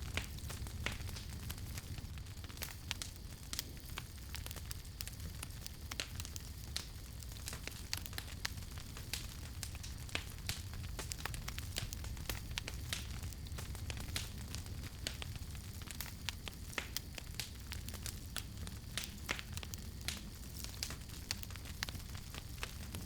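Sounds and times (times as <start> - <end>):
fire popping and snapping: 0.0 - 23.0
fire rumble and hiss: 0.0 - 23.0.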